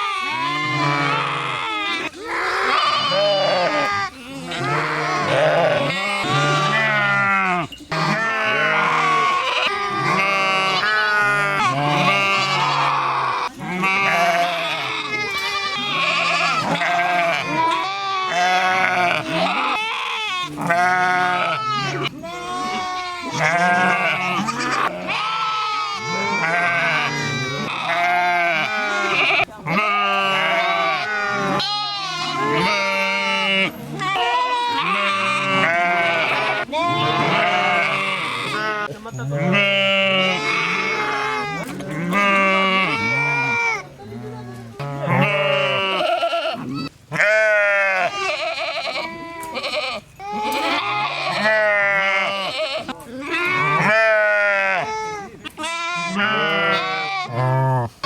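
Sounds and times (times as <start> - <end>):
sheep bleating: 0.0 - 58.0.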